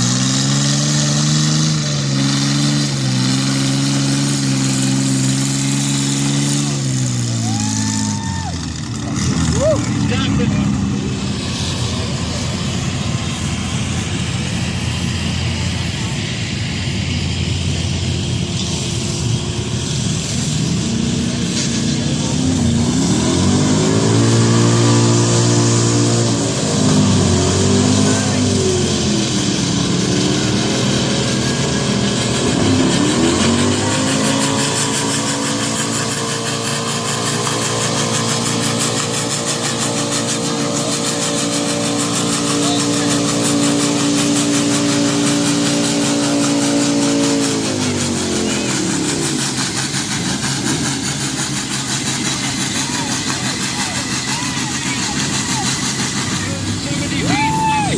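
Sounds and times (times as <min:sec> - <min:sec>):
tractor engine running hard: 0:00.0 - 0:57.9.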